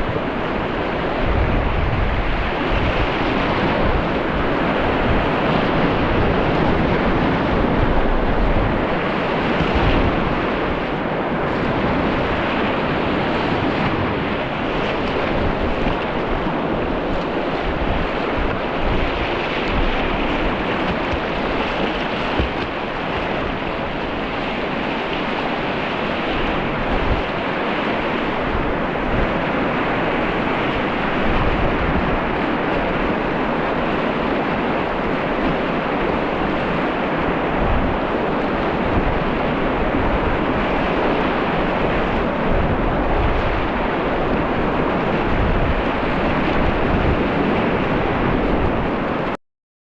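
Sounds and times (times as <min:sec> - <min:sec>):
river water rushing: 0:00.0 - 0:49.4
wind buffeting microphone: 0:00.0 - 0:49.4.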